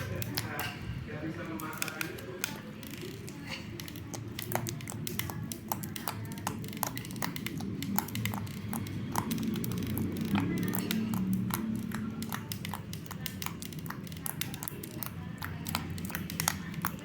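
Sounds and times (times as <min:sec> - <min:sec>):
slime clicking and popping: 0:00.0 - 0:17.0.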